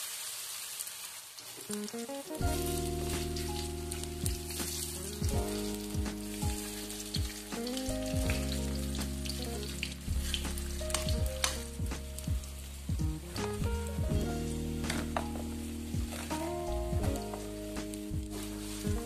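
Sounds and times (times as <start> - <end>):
fritters sizzling in oil: 0.0 - 19.0
background music low notes: 1.7 - 19.0.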